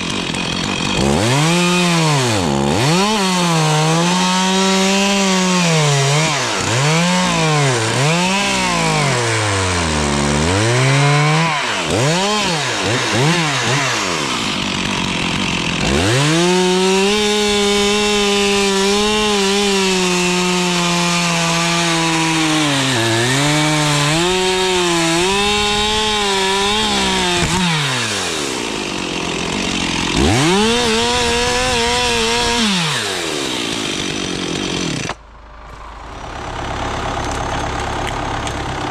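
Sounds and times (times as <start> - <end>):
chainsaw revving and cutting wood: 0.0 - 35.2, 36.2 - 38.9.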